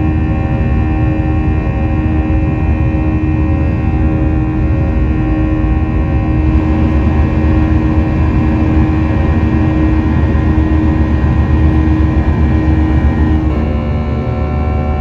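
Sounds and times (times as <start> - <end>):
aircraft engine drone: 0.0 - 15.0
steady fan tones: 0.0 - 15.0.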